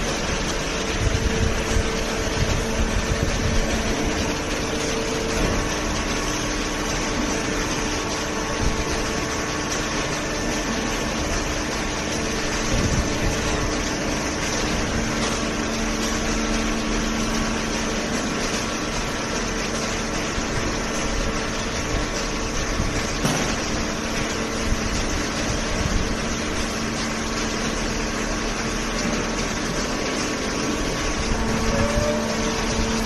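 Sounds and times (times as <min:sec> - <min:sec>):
baling machine humming: 0:00.0 - 0:33.0.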